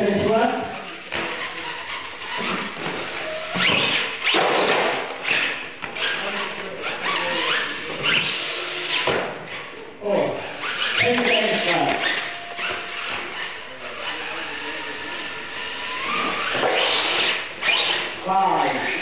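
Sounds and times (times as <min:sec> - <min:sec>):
voices in background: 0:00.0 - 0:04.3, 0:05.2 - 0:19.0
toy truck motor whining: 0:00.0 - 0:19.0.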